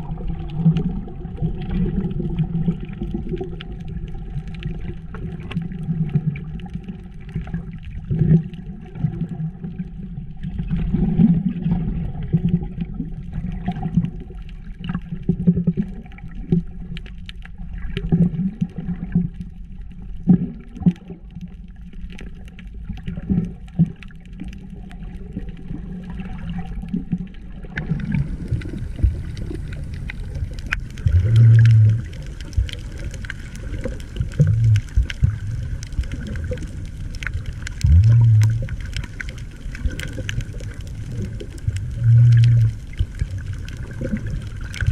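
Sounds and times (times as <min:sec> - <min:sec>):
clicks and crackles: 0:00.0 - 0:44.9
underwater low rumble: 0:00.0 - 0:44.9.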